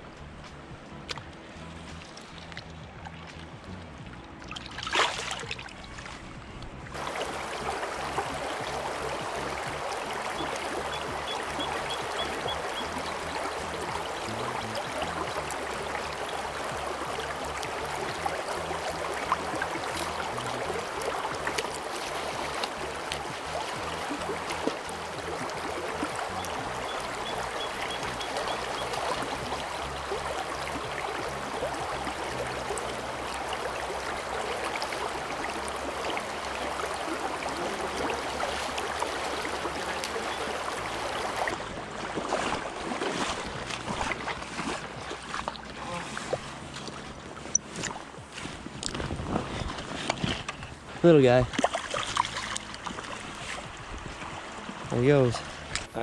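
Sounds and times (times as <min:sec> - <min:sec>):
river current rushing: 0:04.3 - 0:56.0
fish splash: 0:04.4 - 0:06.2, 0:07.0 - 0:48.0, 0:51.5 - 0:53.8.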